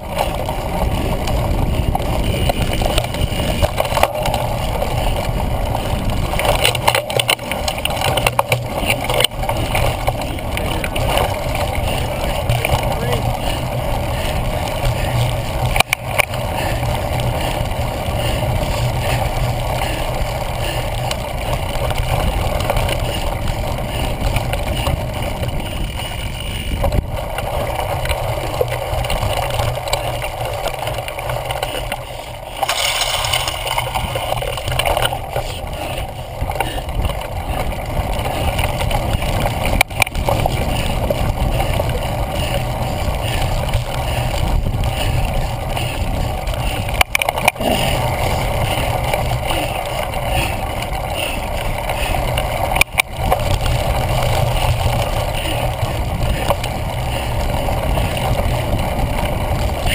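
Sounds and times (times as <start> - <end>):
wind rumble on camera: 0.0 - 59.9.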